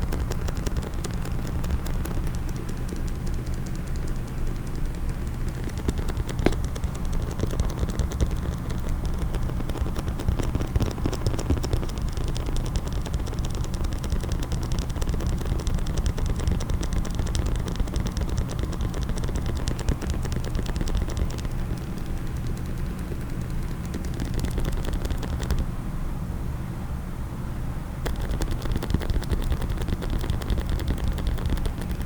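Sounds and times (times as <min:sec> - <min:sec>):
fingernail tapping on hard case: 0:00.0 - 0:25.6, 0:28.0 - 0:32.0
steady low hum: 0:00.0 - 0:32.0.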